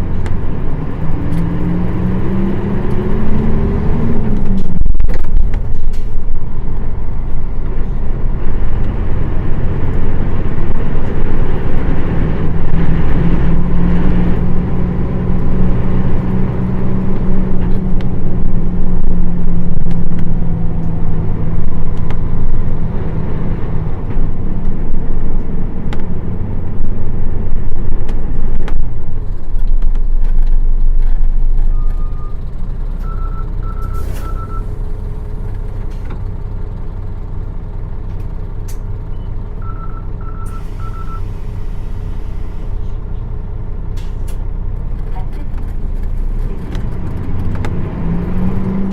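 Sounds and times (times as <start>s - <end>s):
bus diesel engine: 0.0s - 48.9s.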